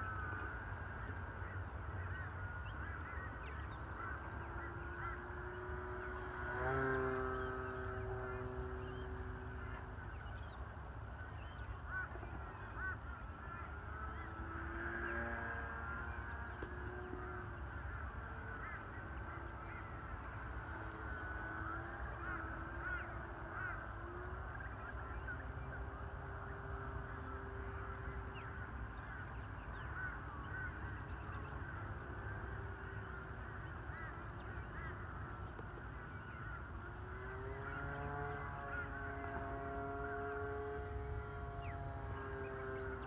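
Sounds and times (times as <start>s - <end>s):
model plane propeller droning: 0.0s - 43.0s.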